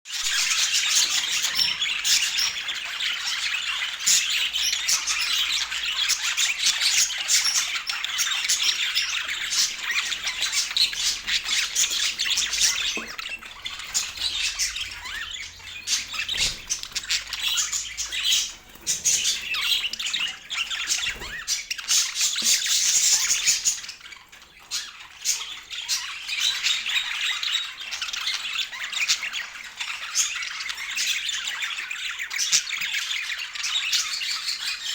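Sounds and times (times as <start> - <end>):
birds chattering and squawking: 0.1 - 34.9.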